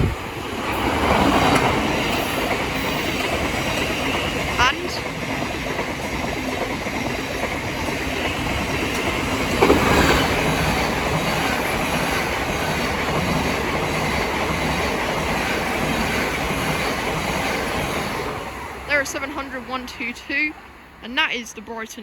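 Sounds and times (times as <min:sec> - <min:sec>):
train wheels rushing on rails: 0:00.0 - 0:21.3.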